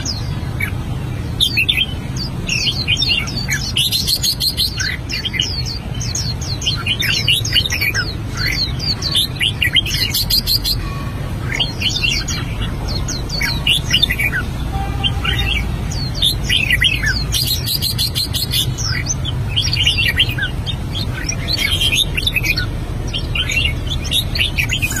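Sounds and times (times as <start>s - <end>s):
bird chirping song: 0.0s - 25.0s.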